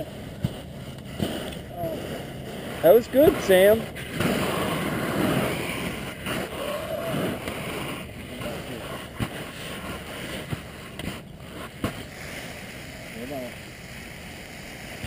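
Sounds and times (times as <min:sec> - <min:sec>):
skis sliding on artificial slope: 0:00.0 - 0:15.0.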